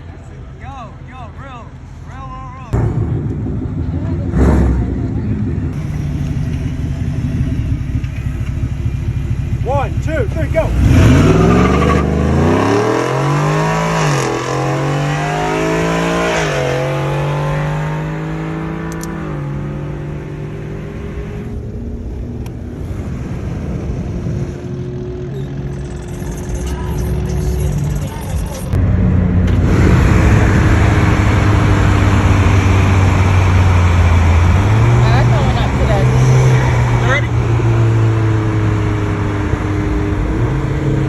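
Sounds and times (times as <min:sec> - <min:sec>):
road and wind noise: 0:00.0 - 0:41.0
car engine accelerating hard: 0:02.8 - 0:41.0.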